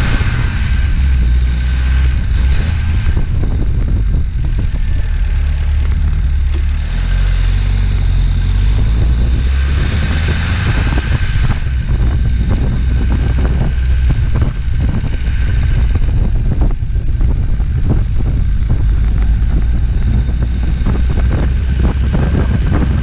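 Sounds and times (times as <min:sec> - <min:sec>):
car engine running: 0:00.0 - 0:23.0
road noise: 0:00.0 - 0:23.0
wind noise: 0:00.0 - 0:23.0.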